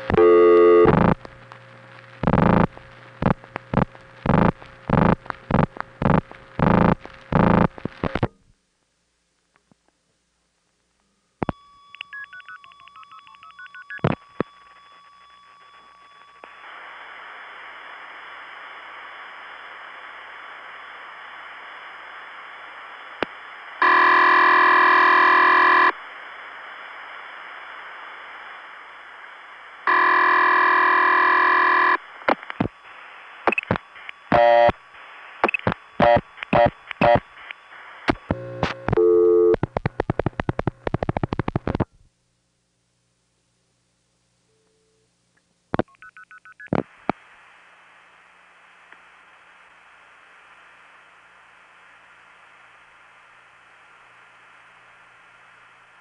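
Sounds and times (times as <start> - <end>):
line tones and hiss: 0.0 - 8.5, 11.2 - 42.1, 45.7 - 56.0.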